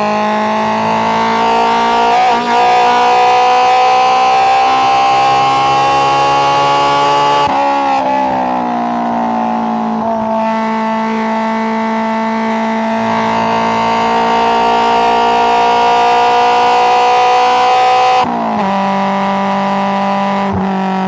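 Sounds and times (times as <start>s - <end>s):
car engine pulling under load: 0.0s - 21.0s.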